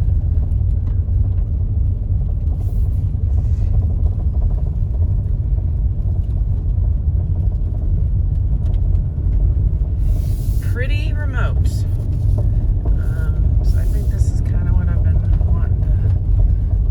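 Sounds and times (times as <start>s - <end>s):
car driving on dirt road: 0.0s - 16.9s.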